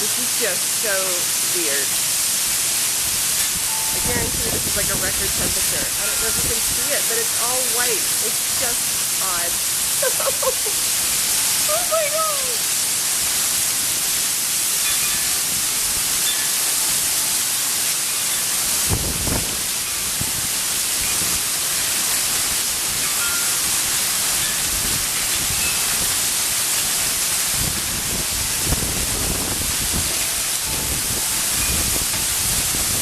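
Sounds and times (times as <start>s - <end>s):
heavy rain and hail: 0.0s - 33.0s.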